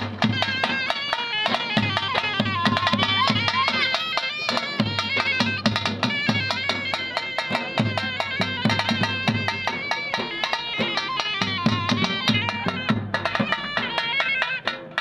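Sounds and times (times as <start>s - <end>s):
rapid drum strokes: 0.0s - 15.0s
shawm melody: 0.0s - 15.0s.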